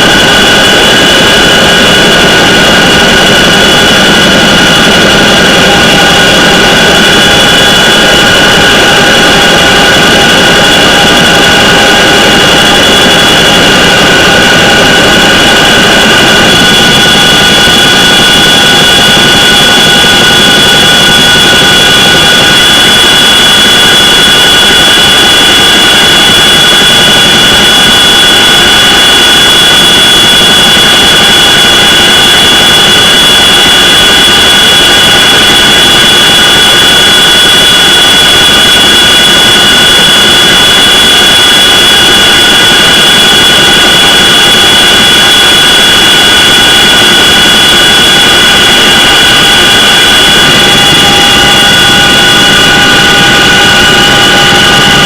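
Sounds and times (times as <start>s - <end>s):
helicopter running: 0.0s - 55.0s
high turbine whine: 0.0s - 55.0s.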